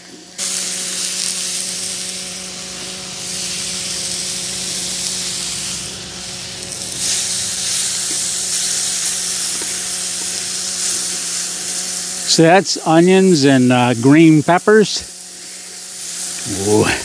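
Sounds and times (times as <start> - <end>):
steak sizzling on a griddle: 0.0 - 17.0.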